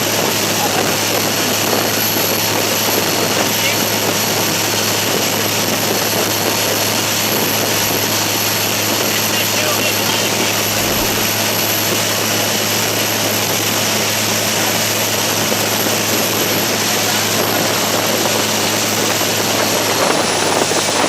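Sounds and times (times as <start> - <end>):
boat engine drone: 0.0 - 21.0
wind and water rushing: 0.0 - 21.0.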